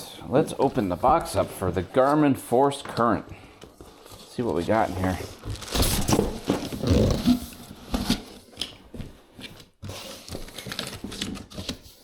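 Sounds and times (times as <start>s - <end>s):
cardboard and packing rustling: 0.0s - 12.0s.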